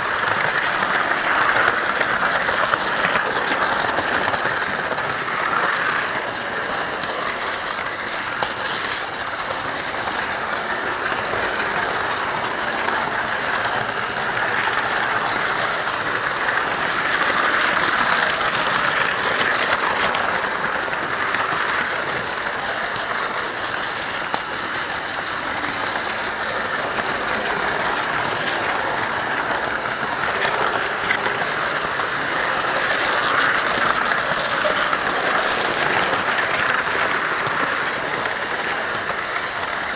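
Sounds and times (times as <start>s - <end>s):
clicks over rail joints: 0.0s - 39.9s
model train motors whirring: 0.0s - 39.9s
wheels rolling on rails: 0.0s - 39.9s.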